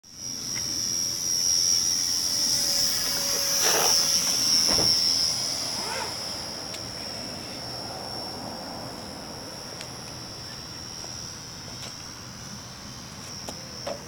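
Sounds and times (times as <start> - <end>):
model airplane motor whine: 0.0 - 14.0.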